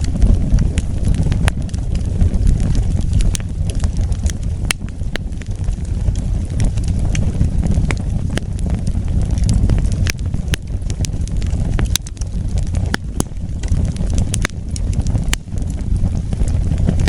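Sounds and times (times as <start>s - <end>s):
burning wood crackling and popping: 0.0s - 17.0s
low rumble of flame: 0.0s - 17.0s.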